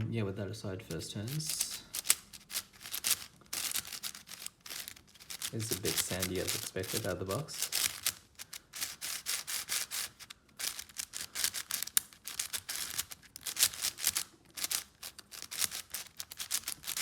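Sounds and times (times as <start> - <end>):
puzzle cube plastic clicks: 0.9 - 17.0.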